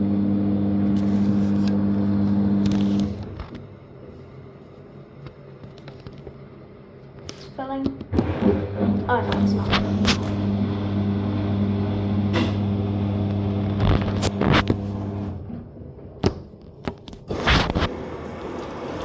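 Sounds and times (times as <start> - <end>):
washing machine hum: 0.0 - 5.6, 6.3 - 19.0.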